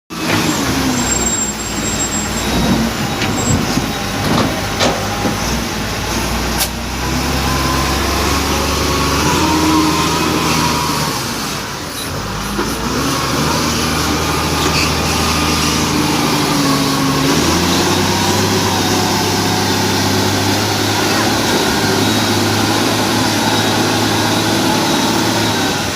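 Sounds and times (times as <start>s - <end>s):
bulldozer diesel engine running: 0.1s - 25.9s.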